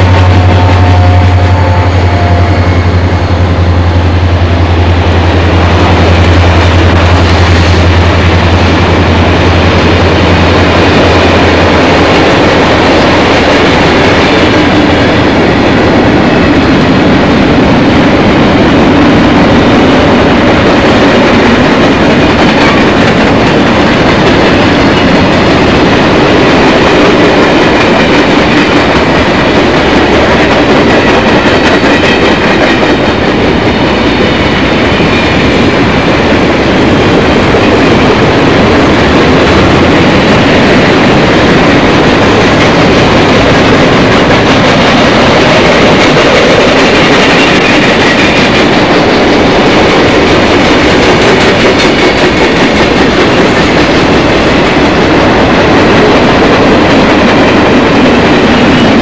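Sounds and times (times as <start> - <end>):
train passing with steady rumble: 0.0 - 59.0.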